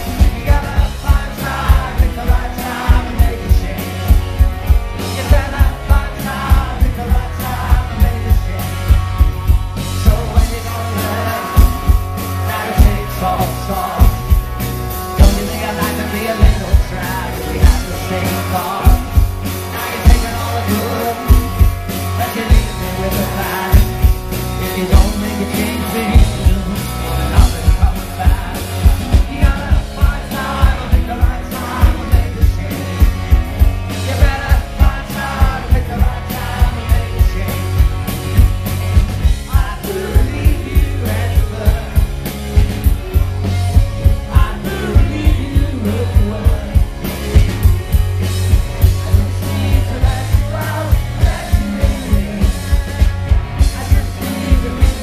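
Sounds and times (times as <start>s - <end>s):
man singing: 0.0s - 55.0s
rock band playing: 0.0s - 55.0s.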